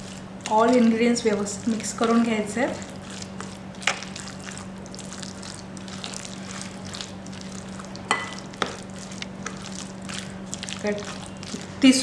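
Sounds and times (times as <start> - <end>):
stirring in a glass bowl: 0.0 - 12.0.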